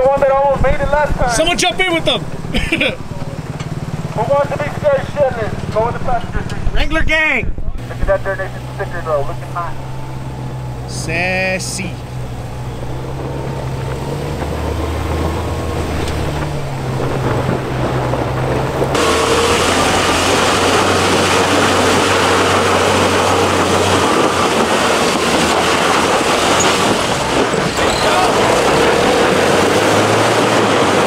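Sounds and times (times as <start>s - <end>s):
car engine labouring: 0.0s - 31.0s.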